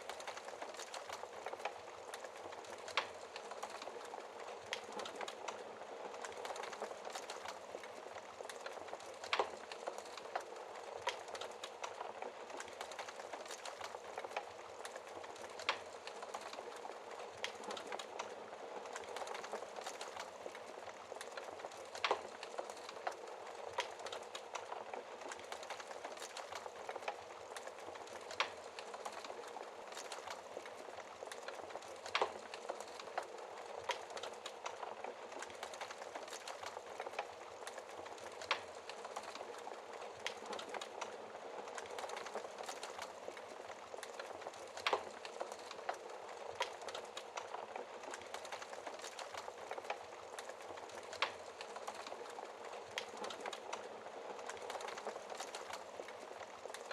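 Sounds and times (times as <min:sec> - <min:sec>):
fire popping: 0:00.0 - 0:56.9
wood fire crackling: 0:00.0 - 0:56.9.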